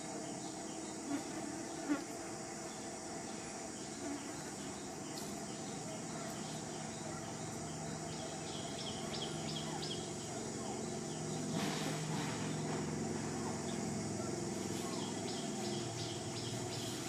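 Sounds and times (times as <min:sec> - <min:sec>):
insects buzzing and chirring: 0:00.0 - 0:17.0.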